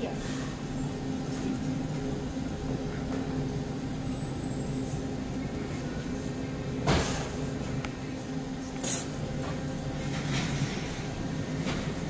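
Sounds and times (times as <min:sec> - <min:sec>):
refrigeration hum: 0:00.0 - 0:12.0.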